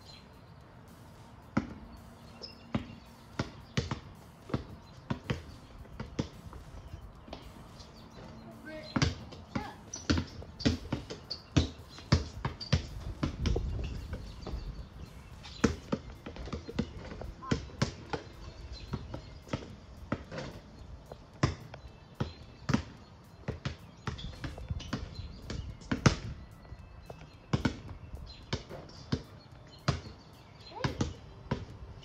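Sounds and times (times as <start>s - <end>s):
basketballs bouncing on concrete: 0.9s - 32.0s.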